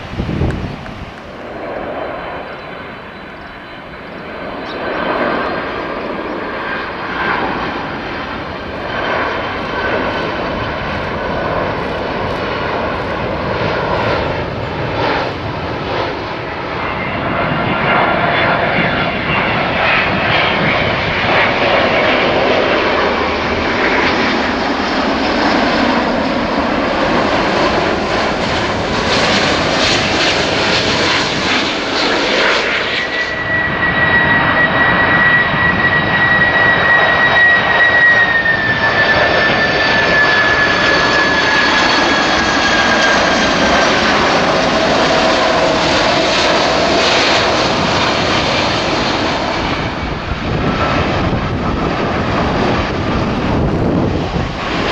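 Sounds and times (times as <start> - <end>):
high jet engine whine: 0.0 - 54.9
jet engines roaring: 0.0 - 54.9.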